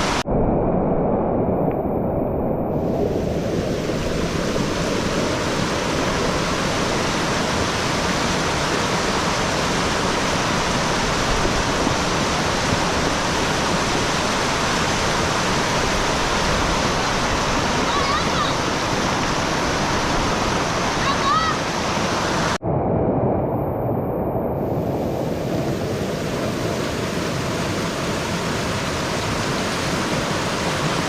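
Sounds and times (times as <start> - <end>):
floodwater rushing: 2.7 - 22.6, 24.7 - 31.0.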